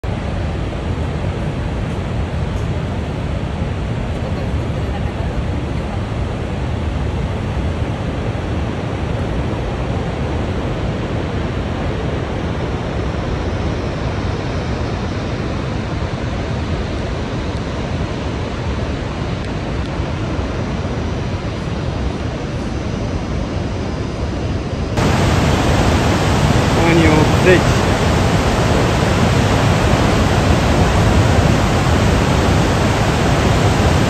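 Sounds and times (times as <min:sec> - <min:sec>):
distant waterfall roar: 0:00.0 - 0:34.0
wind rumbling on microphone: 0:00.0 - 0:34.0.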